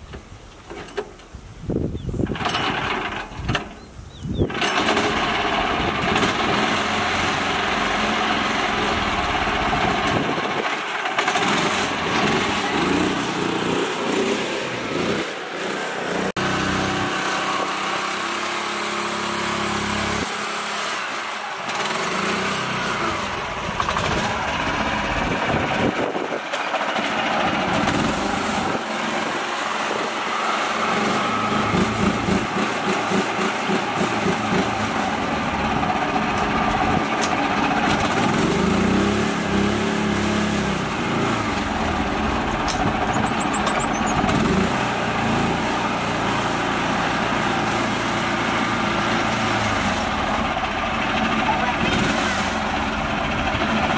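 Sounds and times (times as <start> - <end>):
small tractor engine under load: 0.0 - 53.9.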